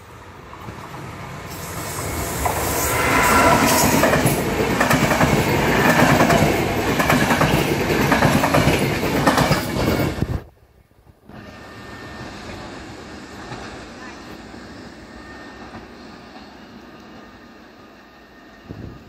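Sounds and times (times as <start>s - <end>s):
electric train passing: 0.0s - 10.2s, 11.3s - 19.0s.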